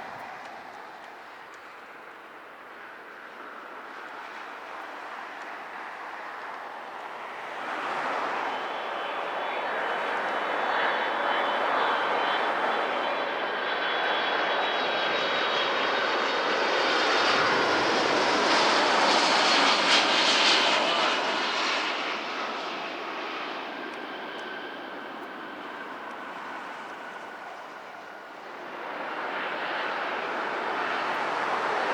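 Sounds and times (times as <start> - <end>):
jet plane passing: 0.0 - 31.9.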